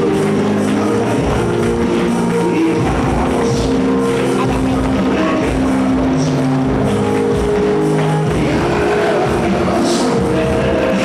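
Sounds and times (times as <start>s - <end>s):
church worship music: 0.0s - 11.0s
held keyboard notes: 0.0s - 11.0s
steady drum beat: 0.0s - 11.0s.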